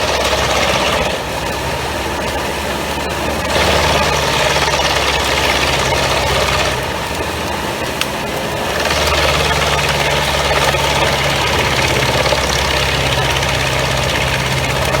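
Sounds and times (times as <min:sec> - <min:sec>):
tractor engine low hum: 0:00.0 - 0:15.0
wood chipper running: 0:00.0 - 0:15.0.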